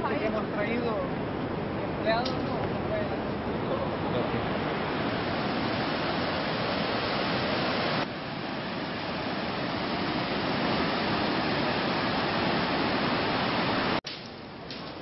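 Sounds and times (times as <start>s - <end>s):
ocean surf breaking on a beach: 0.0s - 15.0s.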